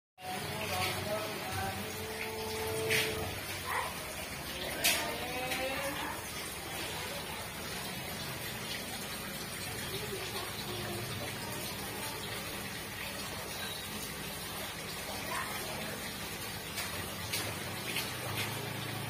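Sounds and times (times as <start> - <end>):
water splashing into pond: 0.2 - 19.0.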